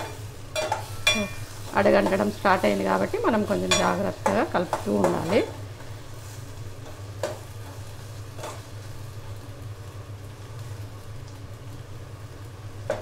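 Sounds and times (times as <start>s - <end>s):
faint sizzling: 0.0s - 13.0s.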